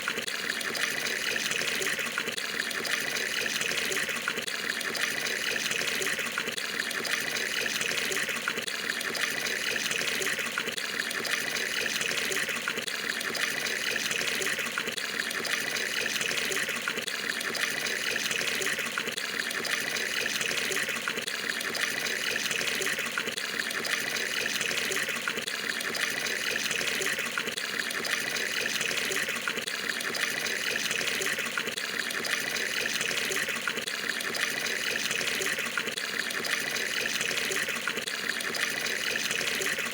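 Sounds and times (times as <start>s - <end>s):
tap water pouring into tub: 0.0s - 39.9s.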